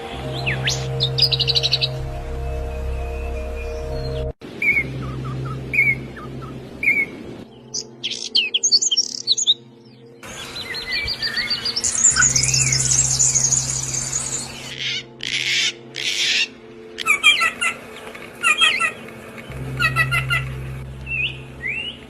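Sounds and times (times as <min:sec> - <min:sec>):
bird trill: 0:00.0 - 0:09.6, 0:10.3 - 0:17.8, 0:18.4 - 0:22.0
small birds chirping: 0:02.8 - 0:22.0.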